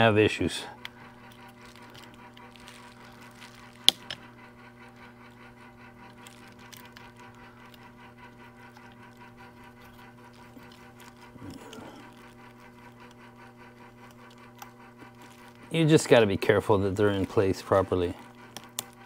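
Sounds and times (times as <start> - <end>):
steady low hum: 0.0 - 19.0
faint scratching and handling: 0.3 - 19.0.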